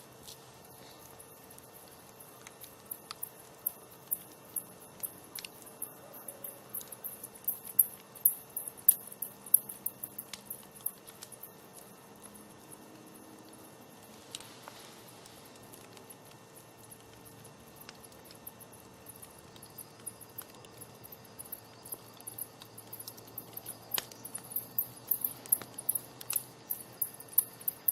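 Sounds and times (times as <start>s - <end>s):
campfire crackling and popping: 0.0s - 27.9s
crickets chirping: 0.0s - 27.9s.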